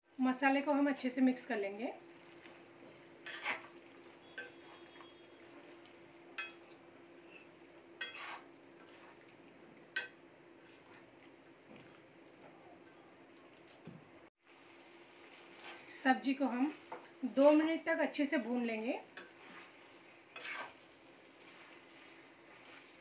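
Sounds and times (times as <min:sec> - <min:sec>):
spatula stirring in pan: 0:02.1 - 0:13.8, 0:14.5 - 0:17.9, 0:18.5 - 0:23.0.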